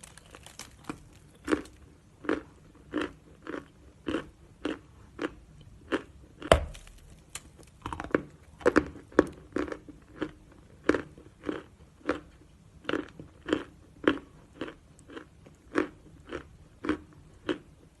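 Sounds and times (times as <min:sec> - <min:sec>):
person chewing chalk: 0:00.0 - 0:17.8.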